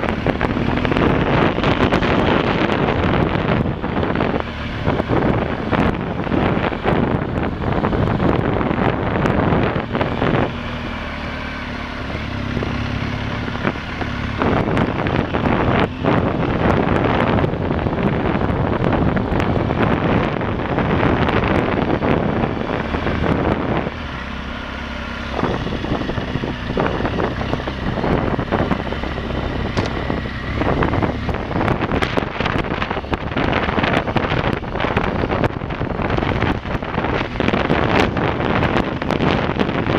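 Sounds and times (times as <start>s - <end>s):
motorcycle engine hum: 0.0s - 39.9s
wind buffeting microphone: 0.0s - 39.9s.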